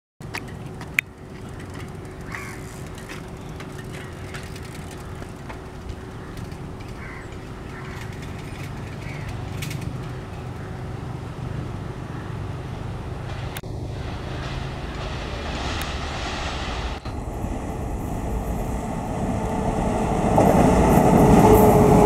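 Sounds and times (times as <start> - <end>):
train rumbling: 0.2 - 22.0.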